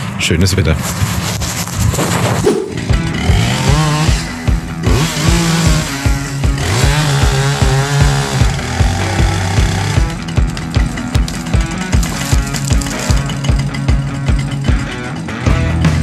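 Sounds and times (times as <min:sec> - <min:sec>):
chainsaw cutting wood: 0:02.0 - 0:15.2
music with steady beat: 0:02.8 - 0:16.0.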